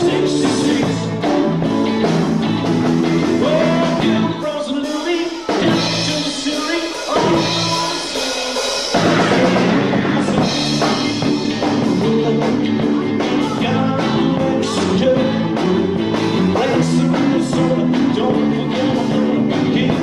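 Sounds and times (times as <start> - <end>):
rock and roll music with singing: 0.0 - 20.0.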